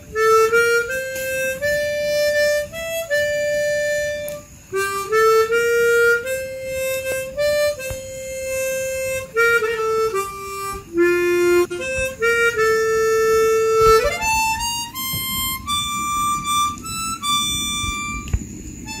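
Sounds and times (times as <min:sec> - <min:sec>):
harmonica slow melody: 0:00.0 - 0:19.0.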